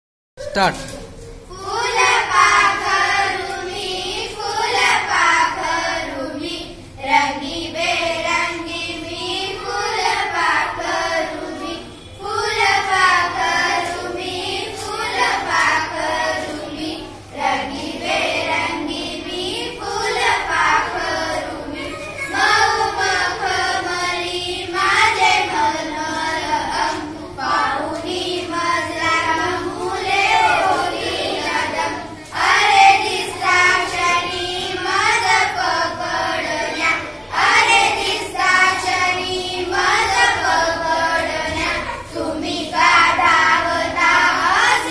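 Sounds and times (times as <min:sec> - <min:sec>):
girls singing in unison: 0:01.4 - 0:44.9.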